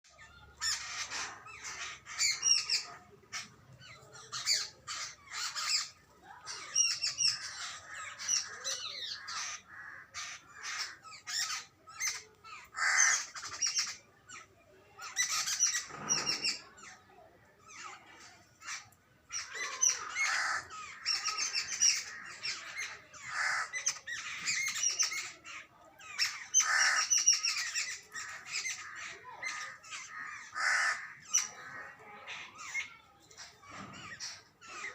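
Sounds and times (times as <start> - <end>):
birds chattering harshly: 0.0 - 34.9.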